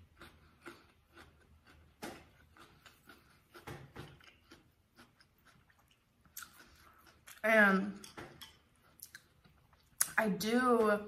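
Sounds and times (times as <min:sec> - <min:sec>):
chewing food: 0:00.0 - 0:10.2.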